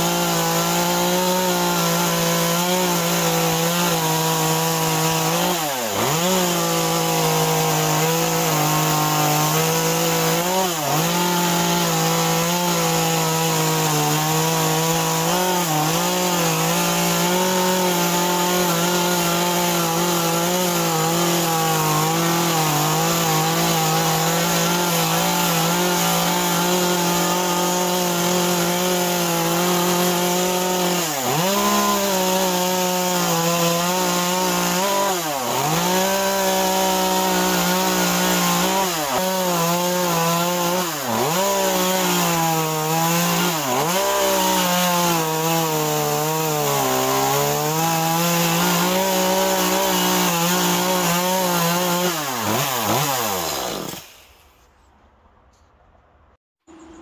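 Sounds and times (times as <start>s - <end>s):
chainsaw cutting wood: 0.0s - 54.7s.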